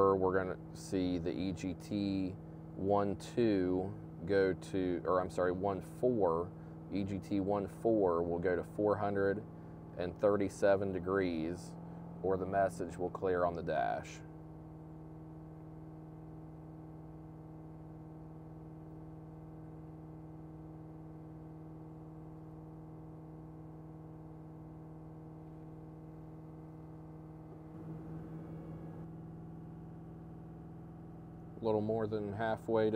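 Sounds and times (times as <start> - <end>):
diesel engine fast idle drone: 0.0 - 32.9.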